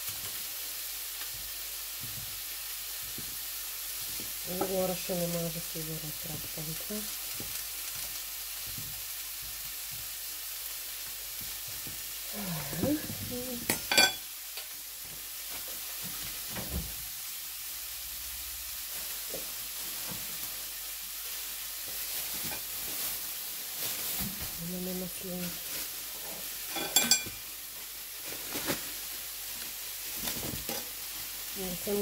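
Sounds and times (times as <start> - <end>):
meat sizzling in a pan: 0.0 - 32.0.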